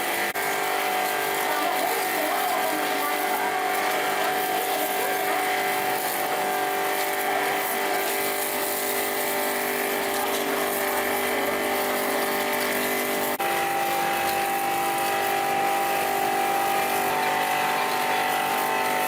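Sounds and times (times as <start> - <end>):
motor running with whine: 0.0 - 19.0.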